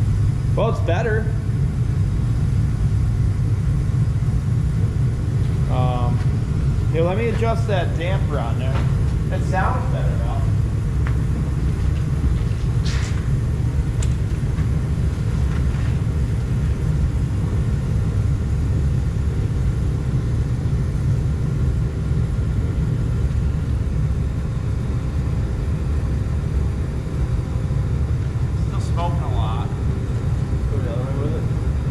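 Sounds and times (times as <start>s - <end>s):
burner and blower rumbling: 0.0s - 31.9s.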